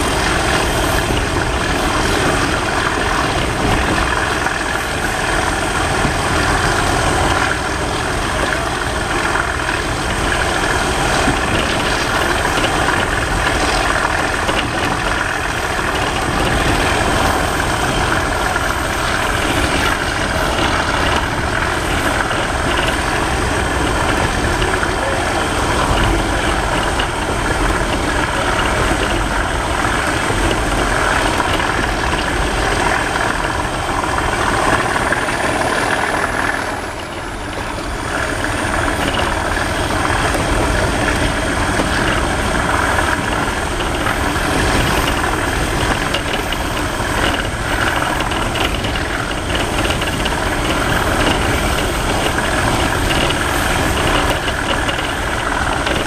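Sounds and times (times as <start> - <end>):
diesel locomotive engine working hard: 0.0 - 56.0
train running: 0.0 - 56.0.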